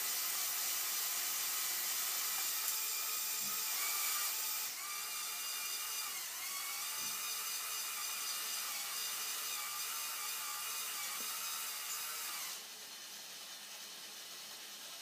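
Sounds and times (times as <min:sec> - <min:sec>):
toy electric motors whining: 0:00.0 - 0:15.0.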